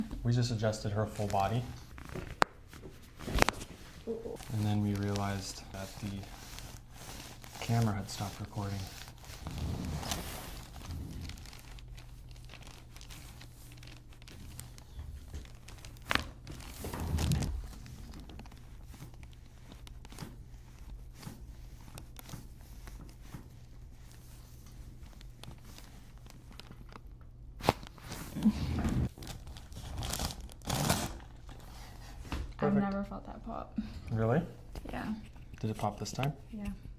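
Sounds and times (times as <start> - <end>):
body rustling on treatment table: 0.0 - 27.0, 27.6 - 32.6.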